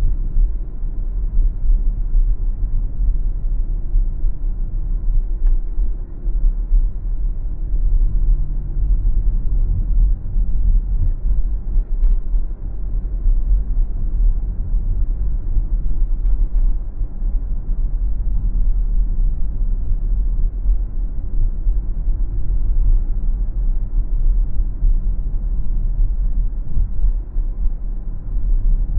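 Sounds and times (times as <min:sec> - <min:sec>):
car driving rumble inside car: 0:00.0 - 0:28.9.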